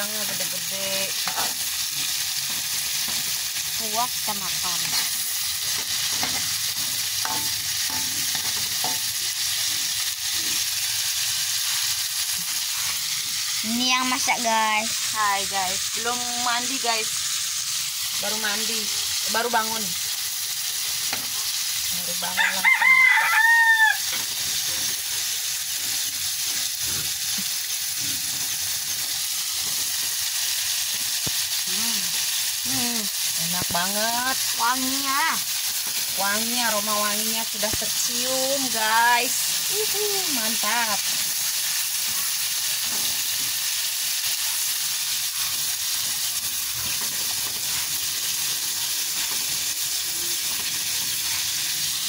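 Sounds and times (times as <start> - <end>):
shrimp sizzling in hot oil: 0.0 - 52.0.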